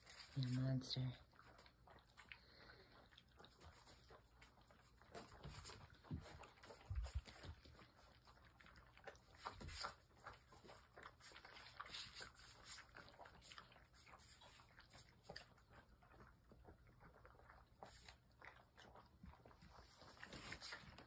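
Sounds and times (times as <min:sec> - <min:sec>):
puppies eating from metal pan: 0:00.0 - 0:21.0.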